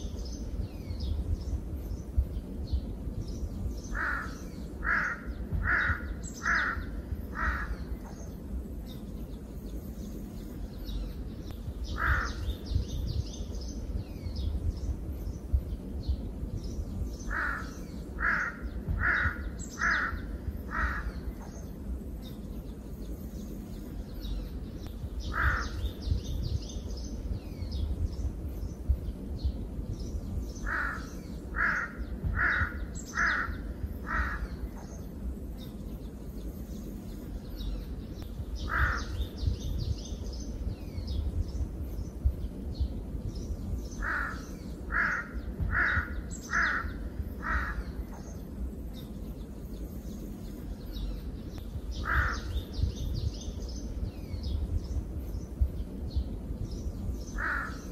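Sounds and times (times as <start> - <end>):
high twittering of small birds: 0.0 - 57.9
low steady rumble: 0.0 - 57.9.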